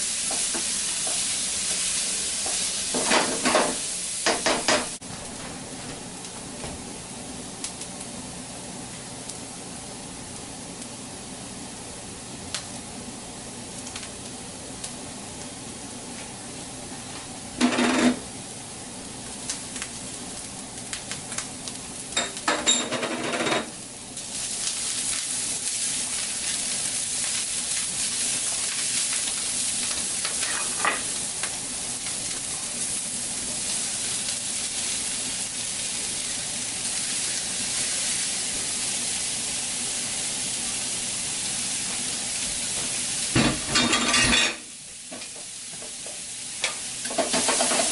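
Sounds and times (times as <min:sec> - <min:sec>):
vegetables sizzling in a pan: 0:00.0 - 0:47.9.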